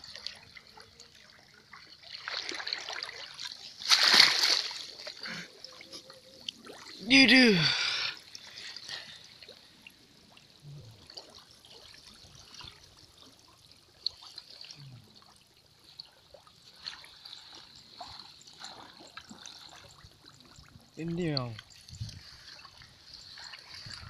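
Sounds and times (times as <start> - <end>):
feet wading through water: 0.0 - 10.4, 11.0 - 24.0.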